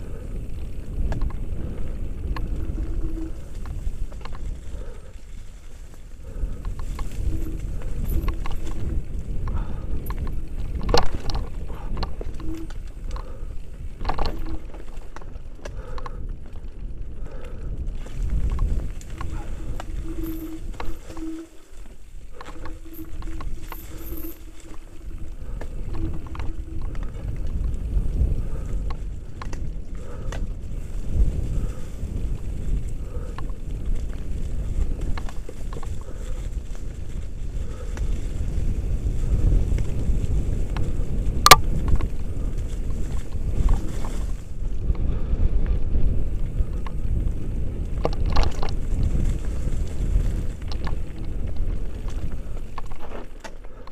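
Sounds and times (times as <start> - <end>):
bike rattling and knocking: 0.0 - 45.4, 46.2 - 53.8
bike tyres rumbling on dirt: 0.0 - 53.8.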